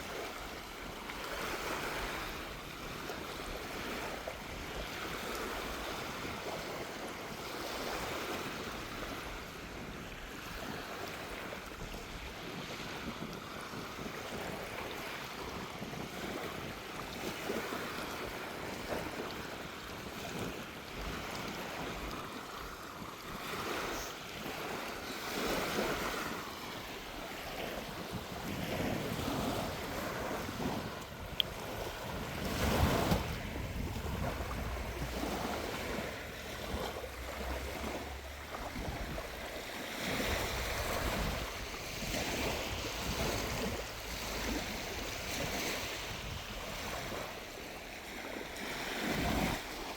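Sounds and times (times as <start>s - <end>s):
small waves breaking on shore: 0.0s - 49.9s
wind buffeting microphone: 0.0s - 49.9s.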